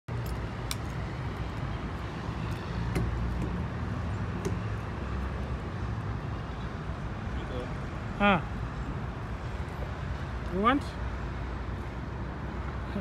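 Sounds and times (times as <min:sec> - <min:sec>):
city traffic rumble: 0:00.1 - 0:13.0.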